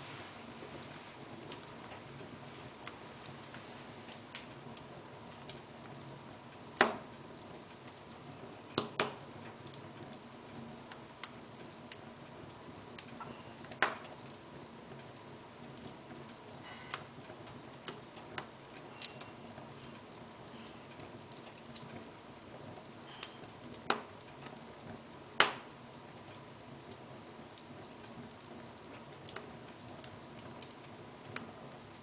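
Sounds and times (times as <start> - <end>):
soft steady fire hiss: 0.0 - 32.0
wood fire crackling: 0.0 - 32.0
sharp pops from burning logs: 0.8 - 32.0.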